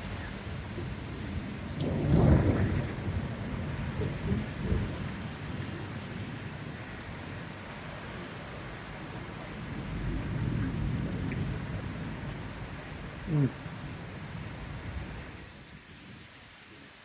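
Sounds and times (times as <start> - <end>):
low thunder rumbling: 0.0 - 7.6, 8.7 - 15.6
heavy rain: 0.0 - 17.0.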